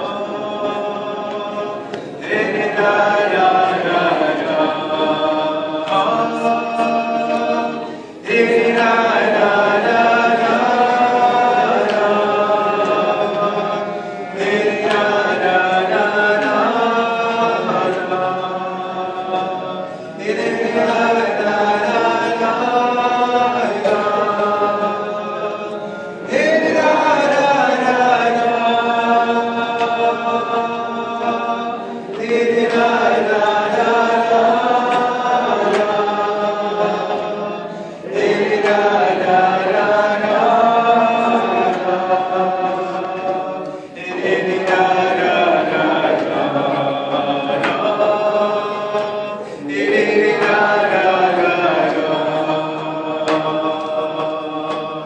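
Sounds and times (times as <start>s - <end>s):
group singing wordless melody: 0.0s - 55.0s.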